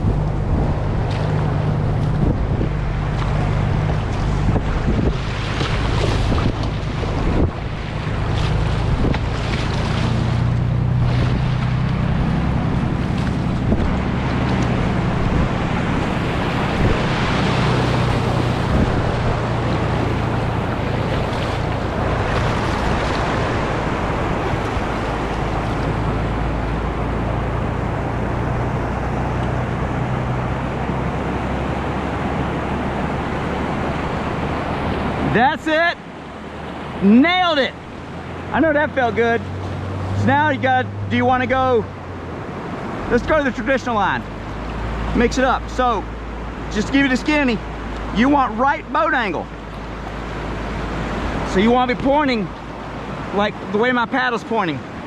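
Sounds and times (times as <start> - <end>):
wind rumbling on microphone: 0.0 - 53.4
whitewater rapids rushing: 0.0 - 55.0.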